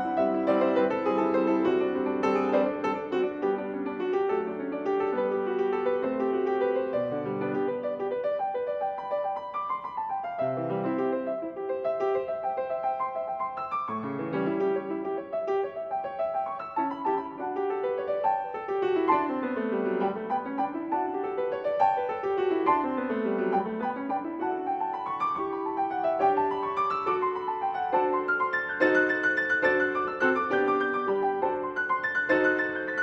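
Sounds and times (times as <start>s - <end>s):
grand piano played solo: 0.0s - 33.0s.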